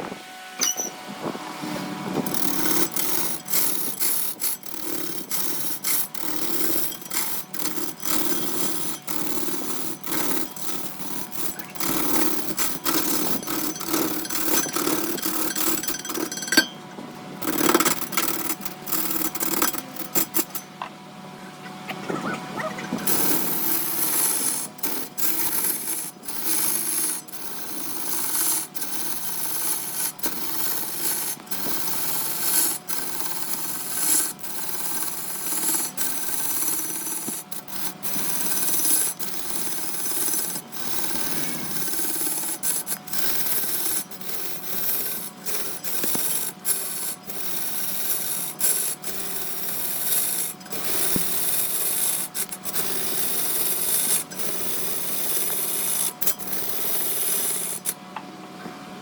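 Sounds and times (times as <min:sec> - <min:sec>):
wood lathe turning: 0:02.1 - 0:20.7, 0:22.9 - 0:58.0
tool scraping wood: 0:02.2 - 0:20.9, 0:21.9 - 0:58.0.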